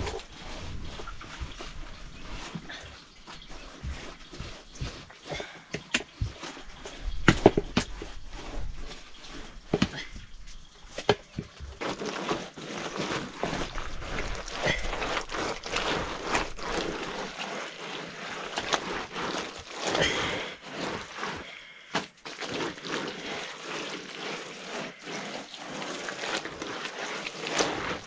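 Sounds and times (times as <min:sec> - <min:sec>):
wet mud smearing by hand: 0:00.0 - 0:28.0.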